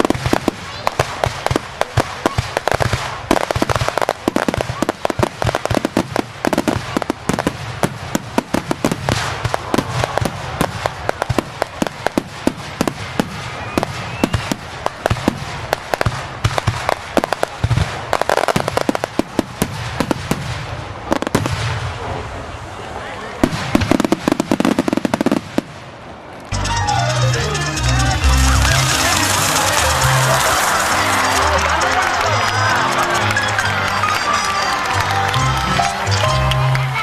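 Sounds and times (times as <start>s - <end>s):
fireworks crackling pops: 0.0s - 22.1s, 23.4s - 26.6s, 27.8s - 37.0s.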